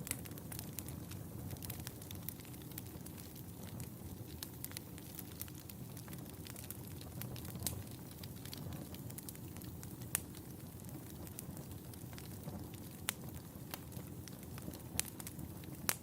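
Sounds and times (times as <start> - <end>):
fire crackles and pops: 0.0 - 16.0
fire rumbling in fireplace: 0.0 - 16.0.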